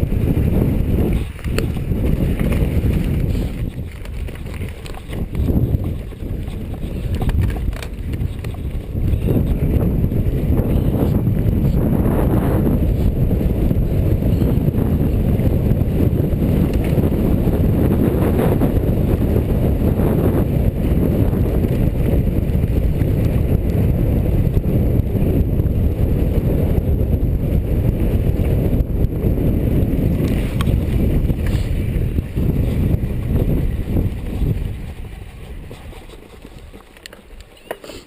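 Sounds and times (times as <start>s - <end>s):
wind rumble on microphone: 0.0s - 37.6s.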